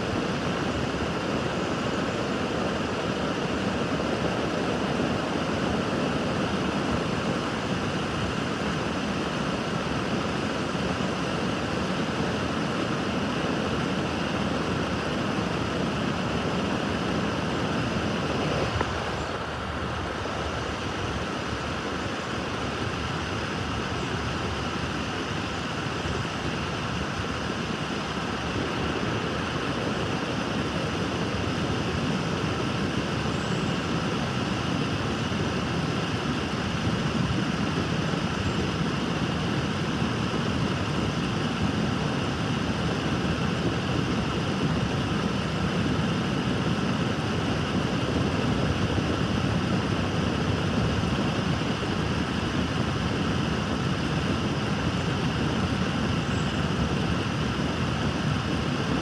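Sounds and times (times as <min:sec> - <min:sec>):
high continuous ringing: 0:00.0 - 0:48.1, 0:49.2 - 0:59.0.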